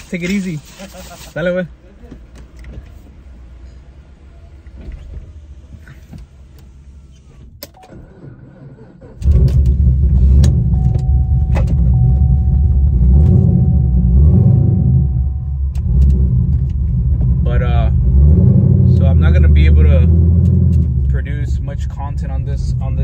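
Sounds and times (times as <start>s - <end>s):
car engine starting and idling: 0.0s - 23.0s.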